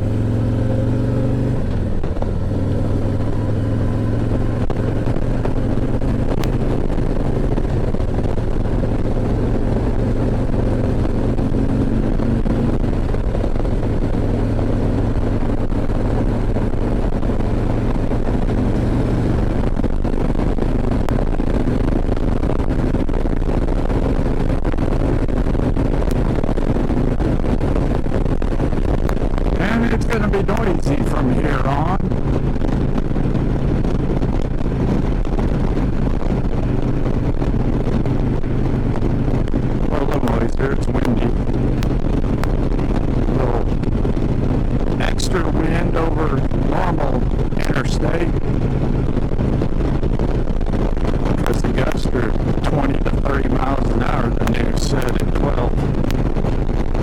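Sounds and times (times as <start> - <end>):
motorcycle engine running: 0.0 - 57.0
road noise: 0.0 - 57.0
wind rush: 0.0 - 57.0.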